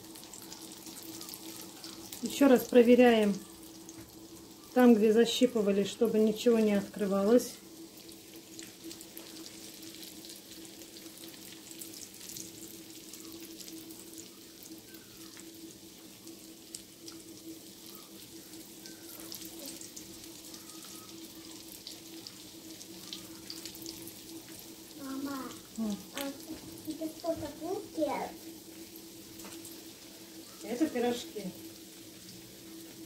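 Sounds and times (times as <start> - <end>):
pies frying in oil: 0.0 - 33.0.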